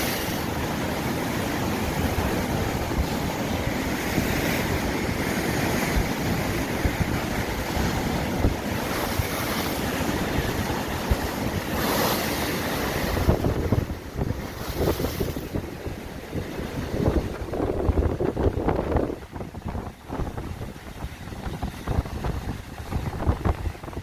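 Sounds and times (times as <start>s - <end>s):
sea waves on shore: 0.0s - 24.0s
wind buffeting microphone: 0.0s - 24.0s.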